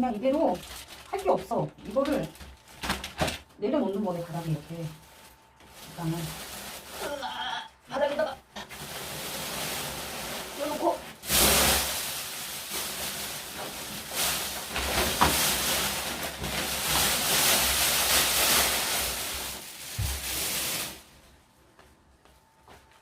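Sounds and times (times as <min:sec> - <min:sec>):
packing material rustling: 0:00.0 - 0:21.4.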